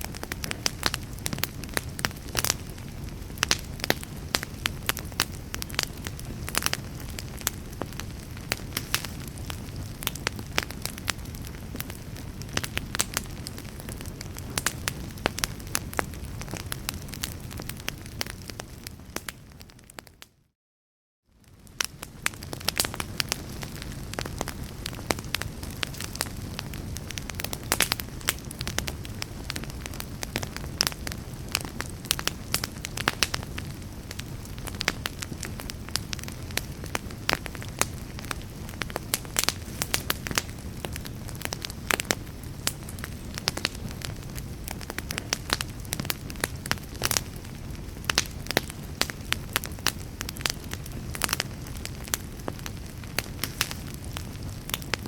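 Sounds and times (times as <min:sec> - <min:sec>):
low rumble of flames: 0:00.0 - 0:20.2, 0:21.3 - 0:55.0
fire crackling with sharp pops: 0:00.0 - 0:20.3, 0:21.3 - 0:55.0.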